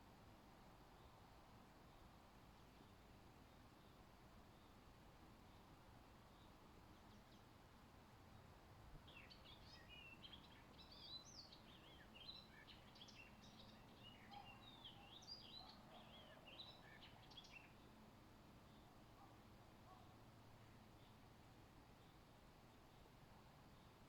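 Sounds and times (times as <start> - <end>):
low background hiss: 0.0 - 24.0.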